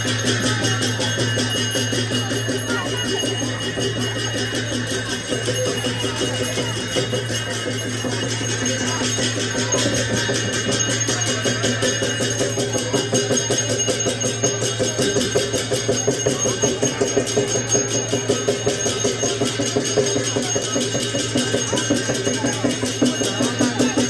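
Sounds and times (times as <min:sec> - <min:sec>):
percussion playing quick beat: 0:00.0 - 0:24.0
ringing metallic tones: 0:00.0 - 0:24.0.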